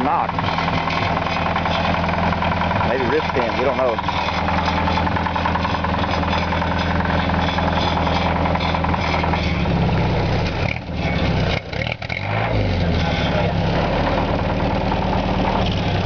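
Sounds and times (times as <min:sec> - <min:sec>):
engine idling with knock: 0:00.0 - 0:12.3, 0:13.0 - 0:16.0.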